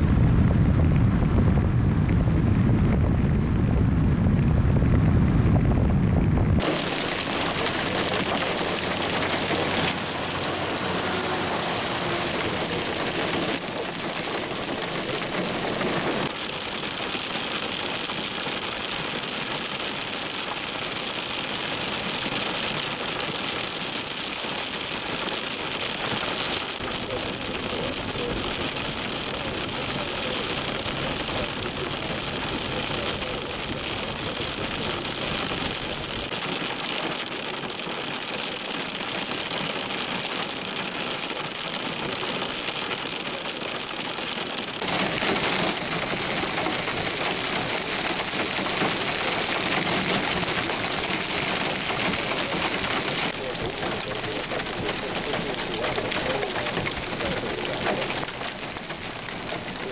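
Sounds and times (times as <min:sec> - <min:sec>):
heavy rain hissing: 0:06.6 - 0:59.9.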